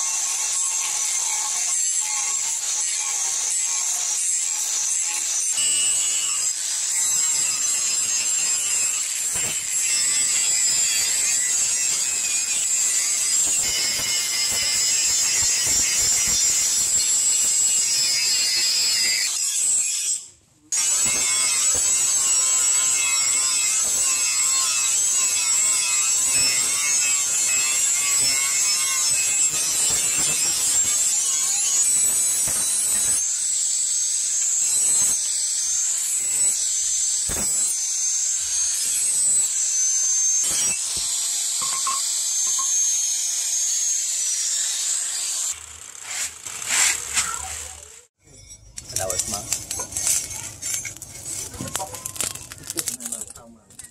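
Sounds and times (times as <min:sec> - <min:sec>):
angle grinder sanding steel: 0:00.0 - 0:48.1.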